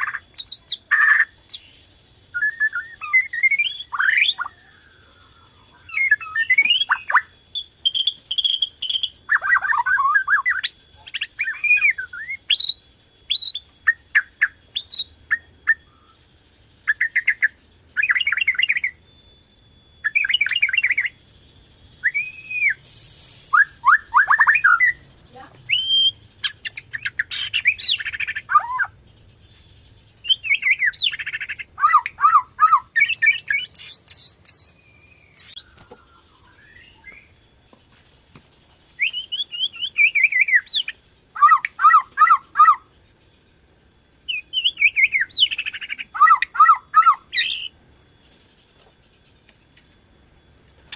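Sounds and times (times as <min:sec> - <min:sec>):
songbird whistling and trilling: 0:00.0 - 0:37.4, 0:38.9 - 0:43.0, 0:44.2 - 0:48.4.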